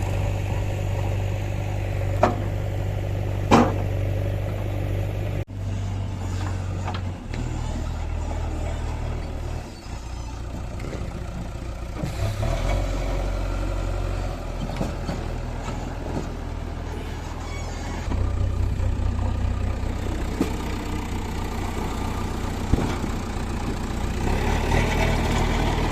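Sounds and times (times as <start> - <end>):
backhoe diesel engine running: 0.0 - 25.9.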